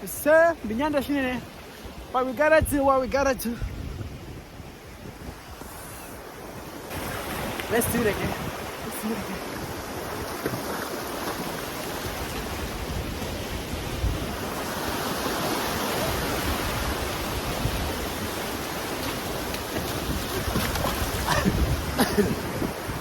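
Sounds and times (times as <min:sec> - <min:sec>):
sea surf washing in: 0:03.5 - 0:23.0.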